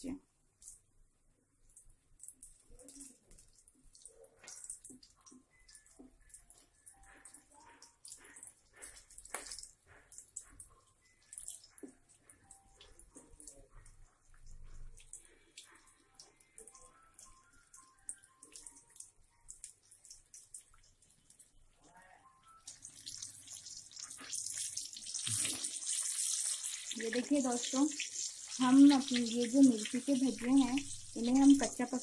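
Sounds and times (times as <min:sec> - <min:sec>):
chillies frying in hot oil: 0:01.6 - 0:32.0
small crackles and pops: 0:01.6 - 0:32.0.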